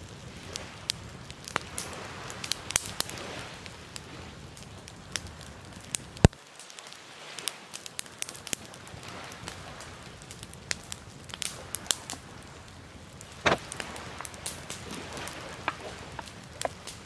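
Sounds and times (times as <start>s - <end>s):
curry crackling and popping: 0.0s - 17.0s.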